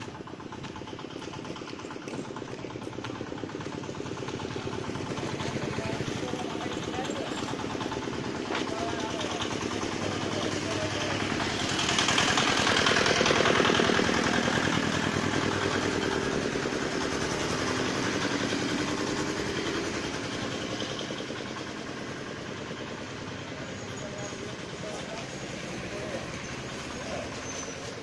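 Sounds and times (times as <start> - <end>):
vehicle engines idling: 0.0 - 28.0.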